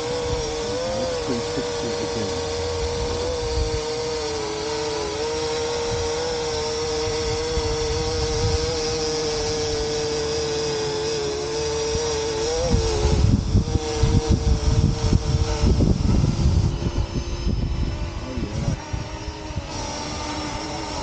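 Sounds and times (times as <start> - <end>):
drone propellers whining: 0.0 - 21.0
wind rumble on microphone: 0.0 - 21.0.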